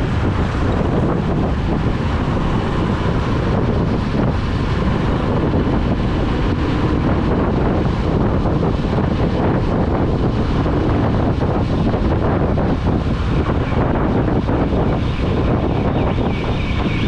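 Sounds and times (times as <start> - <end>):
motorcycle engine: 0.0 - 16.8
wind rushing over microphone: 0.0 - 17.0.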